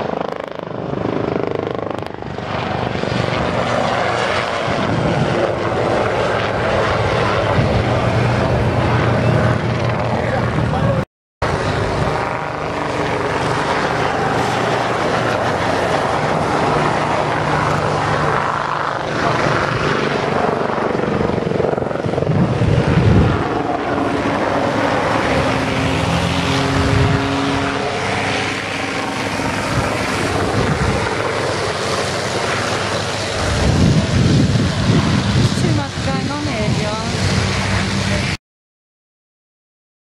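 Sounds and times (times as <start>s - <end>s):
helicopter rotor and engine: 0.0s - 38.4s.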